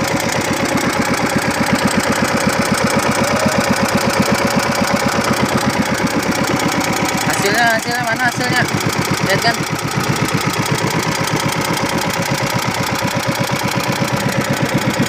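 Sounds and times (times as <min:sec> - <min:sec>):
engine chugging: 0:00.0 - 0:15.0.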